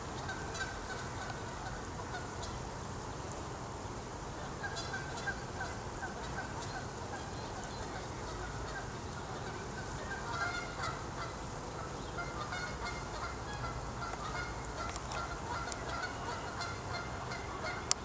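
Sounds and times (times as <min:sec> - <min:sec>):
birds calling: 0:00.0 - 0:02.8, 0:04.4 - 0:18.0.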